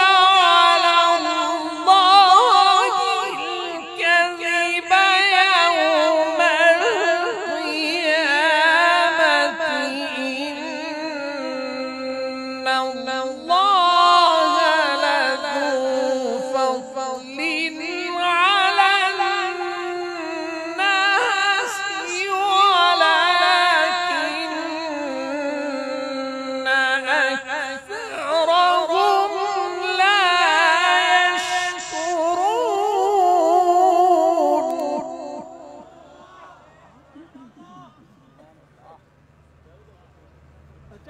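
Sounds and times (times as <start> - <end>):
man reciting melodically: 0.0 - 36.4.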